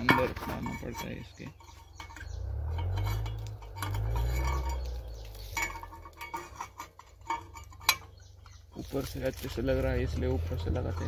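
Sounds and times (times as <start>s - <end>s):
metal clinking and scraping: 0.0s - 11.0s.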